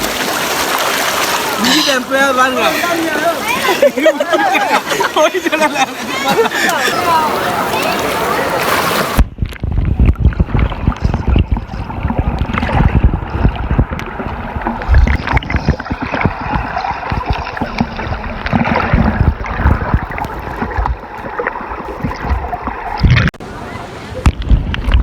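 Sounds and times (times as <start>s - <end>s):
muffled underwater sloshing: 0.0s - 25.0s.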